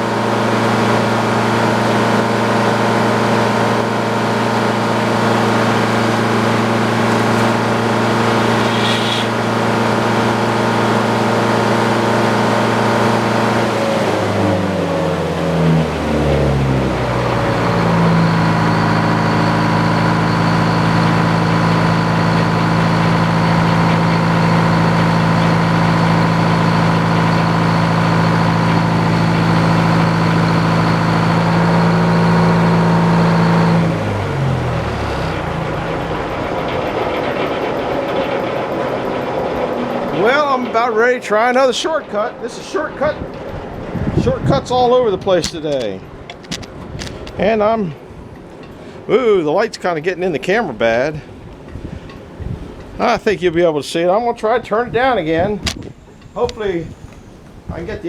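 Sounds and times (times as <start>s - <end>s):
high whine: 0.0s - 53.6s
sawmill engine running: 0.0s - 58.0s.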